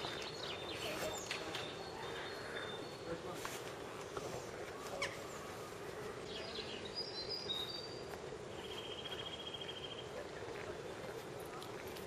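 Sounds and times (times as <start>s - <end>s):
low background noise: 0.0s - 12.0s
songbird chirps: 0.0s - 12.0s.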